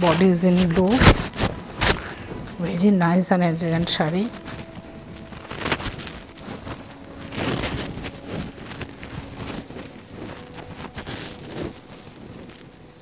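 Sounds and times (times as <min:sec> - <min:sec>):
silk fabric rustling: 0:00.0 - 0:13.0.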